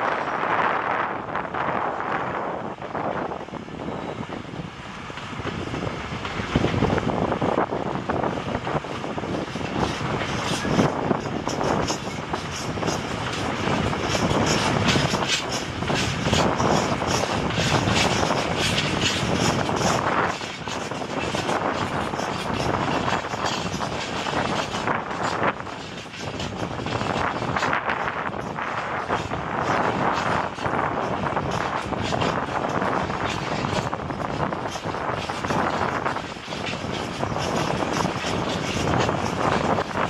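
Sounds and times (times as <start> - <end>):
diesel locomotive engine: 0.0 - 40.0
wagons rumbling and clattering: 5.6 - 40.0.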